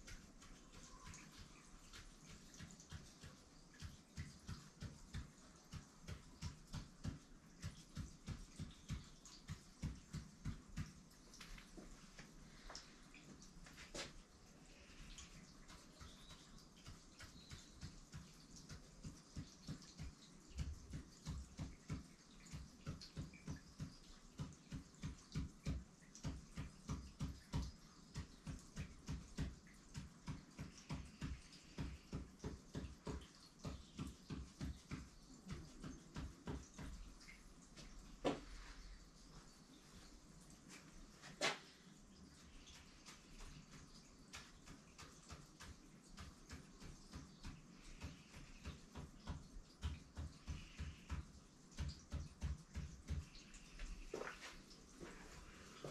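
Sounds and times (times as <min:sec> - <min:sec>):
marker tapping on paper: 0:00.0 - 0:12.8, 0:15.6 - 0:37.3, 0:42.6 - 0:54.3.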